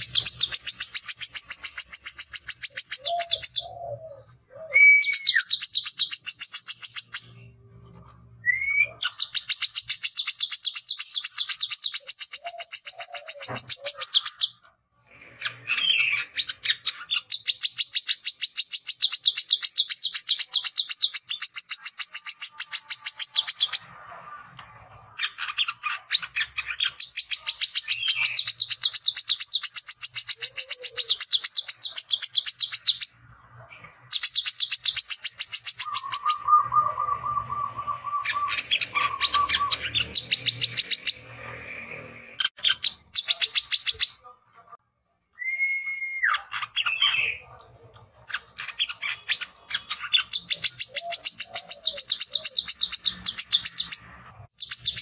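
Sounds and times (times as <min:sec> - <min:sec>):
bird chattering song: 0:00.0 - 0:07.6, 0:08.8 - 0:23.9, 0:24.5 - 0:44.3, 0:46.3 - 0:55.0.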